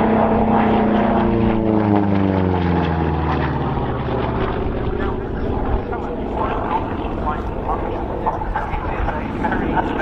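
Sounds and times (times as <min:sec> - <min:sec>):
propeller plane flypast: 0:00.0 - 0:10.0.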